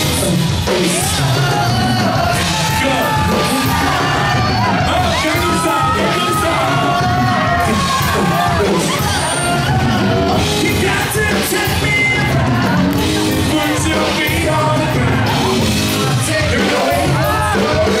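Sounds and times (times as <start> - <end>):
live rock band playing: 0.0 - 18.0
man singing: 0.0 - 18.0.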